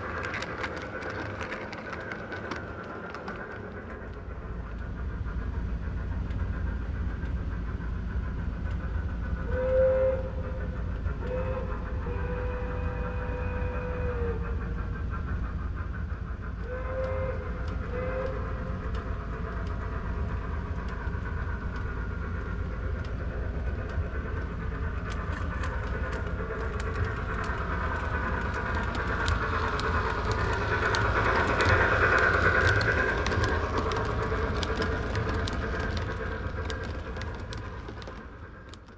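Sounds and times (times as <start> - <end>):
model train rumbling on track: 0.0 - 38.9
wheels clicking over rails: 0.0 - 38.9.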